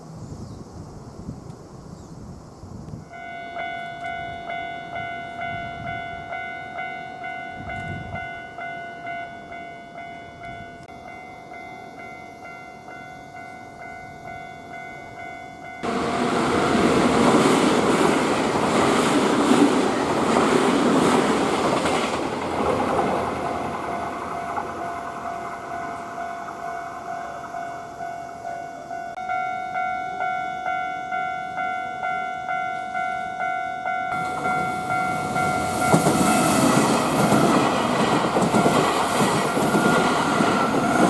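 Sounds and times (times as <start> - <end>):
electric train rumbling past: 2.5 - 41.0
level-crossing warning bell ringing: 3.1 - 41.0.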